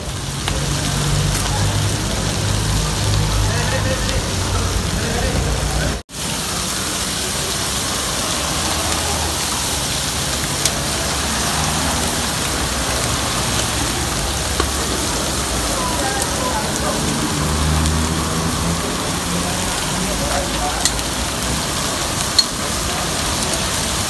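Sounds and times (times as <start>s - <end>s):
squid sizzling on griddle: 0.0s - 24.0s.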